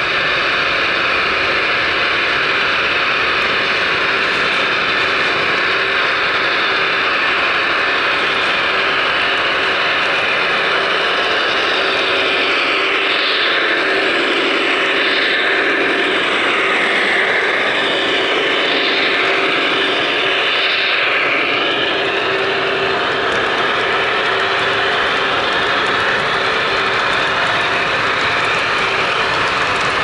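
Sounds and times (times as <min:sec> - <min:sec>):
model locomotive diesel drone: 0:00.0 - 0:30.0.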